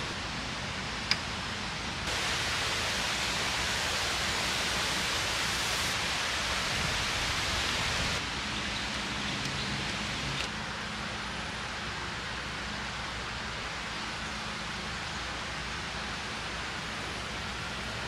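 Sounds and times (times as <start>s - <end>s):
river rushing: 2.0s - 18.0s.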